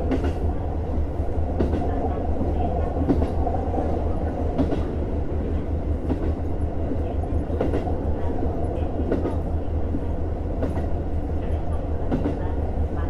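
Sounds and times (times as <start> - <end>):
train rolling rumble: 0.0 - 13.0.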